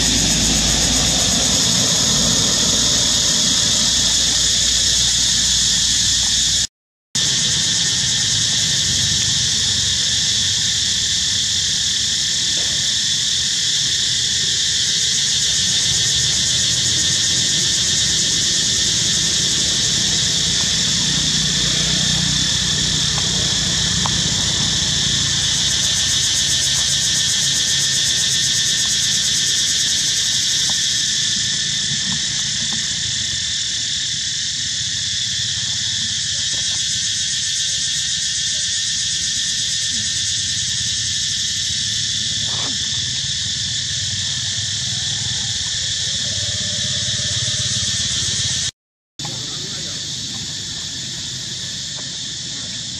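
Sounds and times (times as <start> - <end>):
insects chorus: 0.0 - 52.9.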